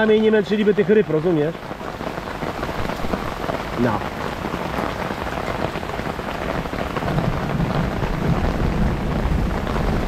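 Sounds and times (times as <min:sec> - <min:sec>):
heavy rain on water: 0:00.0 - 0:10.0.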